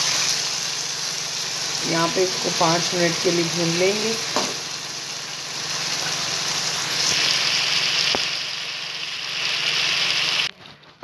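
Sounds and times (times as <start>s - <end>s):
fish sizzling in a wok: 0.0s - 10.9s.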